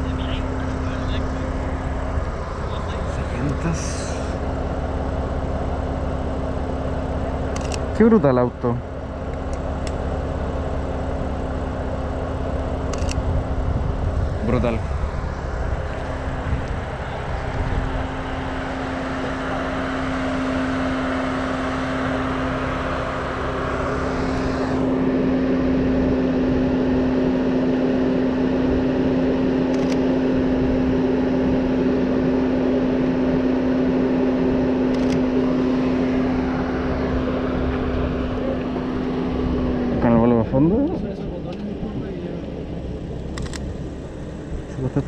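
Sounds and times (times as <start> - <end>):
steady engine hum: 0.0 - 45.0.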